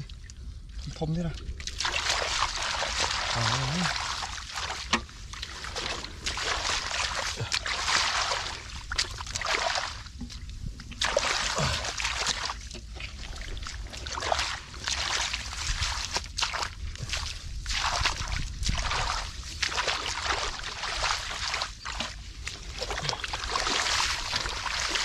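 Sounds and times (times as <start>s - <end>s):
hands splashing in muddy water: 1.4s - 25.0s.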